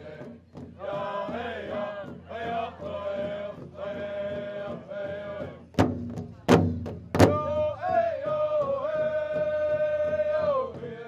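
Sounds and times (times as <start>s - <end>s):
men chanting a pow wow song: 0.0s - 5.8s, 7.2s - 11.0s.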